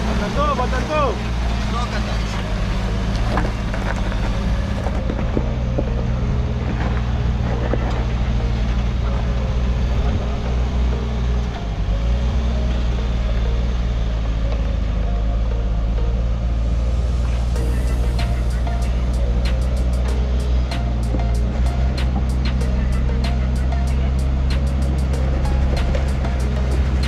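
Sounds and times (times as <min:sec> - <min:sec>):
engine running under load: 0:00.0 - 0:27.0.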